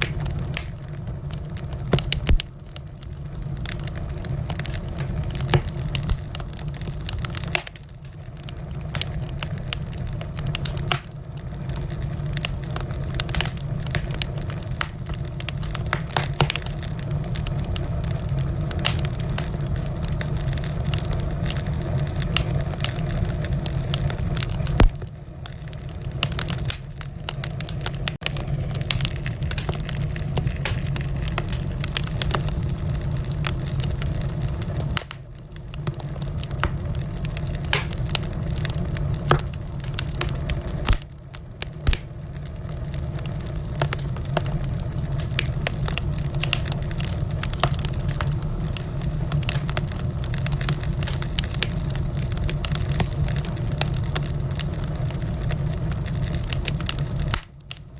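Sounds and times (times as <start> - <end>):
low fire rumble: 0.0 - 57.9
wood fire crackling: 0.0 - 57.9.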